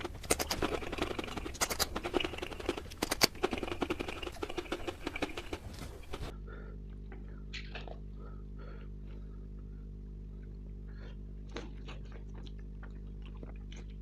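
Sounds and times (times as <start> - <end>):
chewing and mouth sounds: 0.0 - 6.3, 6.9 - 9.6, 10.3 - 14.0.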